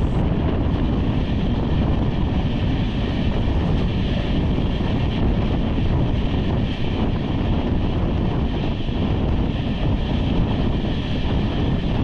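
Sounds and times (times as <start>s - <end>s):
train coaches running on track: 0.0s - 12.0s
wind rushing over microphone: 0.0s - 12.0s.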